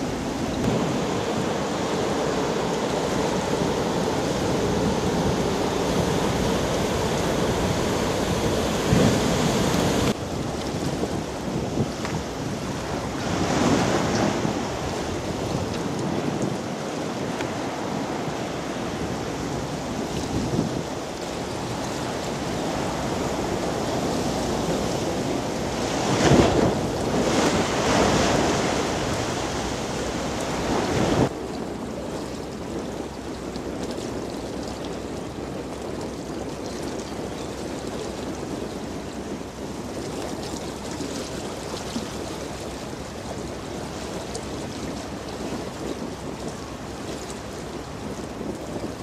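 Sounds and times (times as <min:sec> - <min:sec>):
waves splashing against riverbank: 0:00.0 - 0:49.0.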